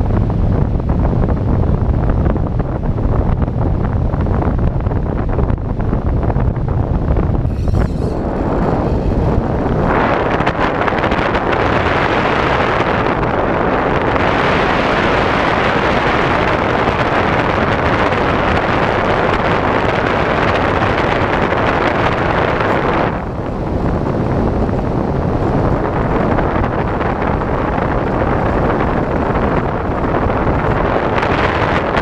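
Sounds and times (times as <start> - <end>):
wind rush on microphone: 0.0 - 32.0.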